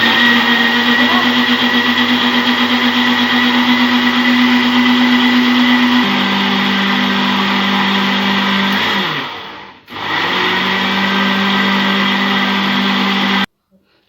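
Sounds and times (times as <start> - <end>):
electric mixer motor: 0.0 - 13.5.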